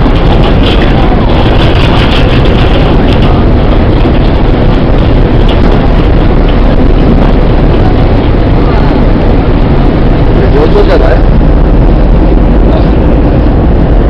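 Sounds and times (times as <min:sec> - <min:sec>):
ferry deck rumble and rushing: 0:00.0 - 0:14.0.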